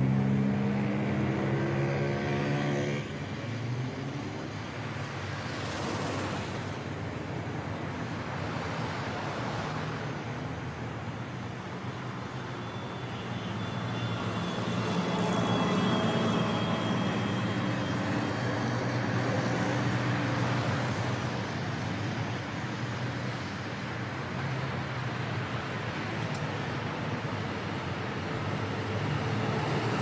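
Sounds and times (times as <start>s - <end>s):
road traffic: 0.0s - 30.0s
bus engine running: 3.2s - 30.0s.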